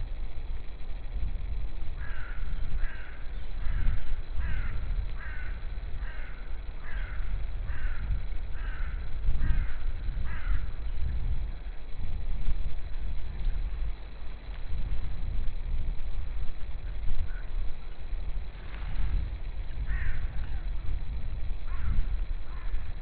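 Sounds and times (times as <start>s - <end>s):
constant low rumble: 0.0s - 23.0s.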